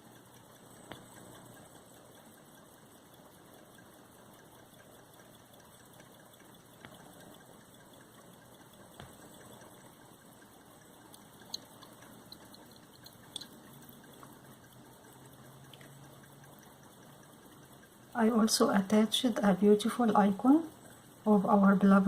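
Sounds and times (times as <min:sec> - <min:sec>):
low background hiss: 0:00.0 - 0:22.0
faint clicks: 0:00.1 - 0:19.4.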